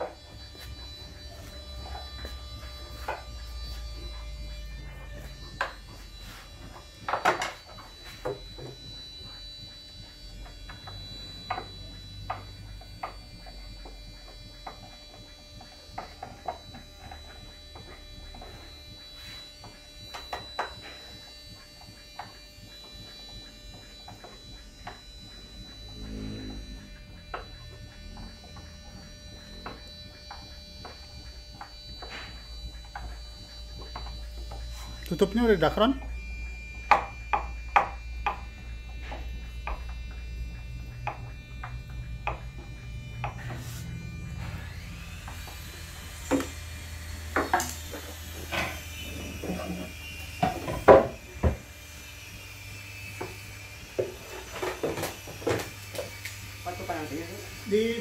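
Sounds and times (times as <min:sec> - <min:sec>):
faint hum: 0:00.0 - 0:54.7
constant high tone: 0:00.0 - 0:58.0.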